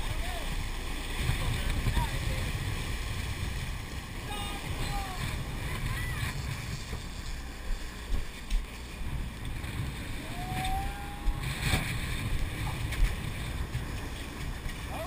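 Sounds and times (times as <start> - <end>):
boat engine rumble: 0.0 - 15.0
churning wake rushing: 0.0 - 15.0
wind buffeting microphone: 0.0 - 15.0.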